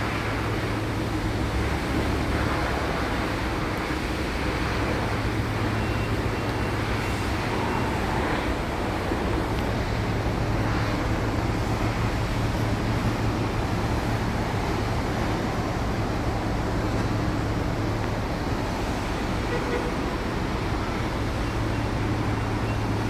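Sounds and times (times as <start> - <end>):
road noise hiss: 0.0 - 23.0
car engine hum: 0.1 - 23.0.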